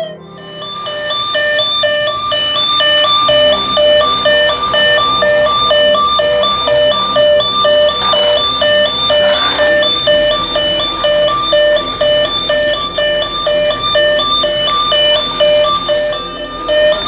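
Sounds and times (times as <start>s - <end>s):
toy police car siren: 0.0s - 17.0s.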